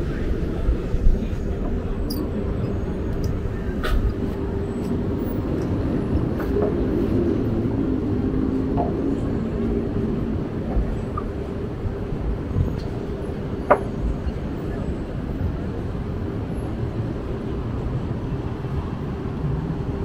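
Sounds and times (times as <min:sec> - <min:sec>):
droning hum: 0:00.0 - 0:20.0
traffic rumble: 0:00.0 - 0:20.0.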